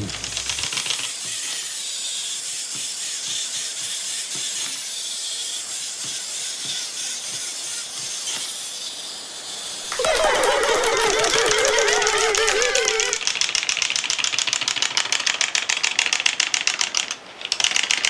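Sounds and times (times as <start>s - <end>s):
clockwork toys whirring: 0.0s - 18.0s.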